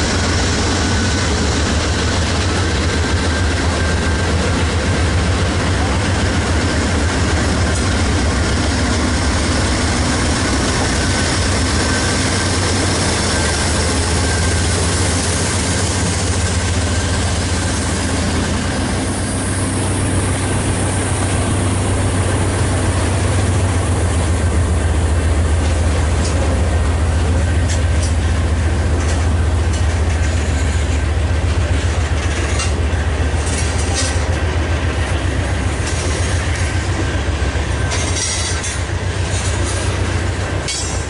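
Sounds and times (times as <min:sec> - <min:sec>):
diesel locomotive engine drone: 0:00.0 - 0:41.0
freight cars rolling on rails: 0:00.0 - 0:41.0.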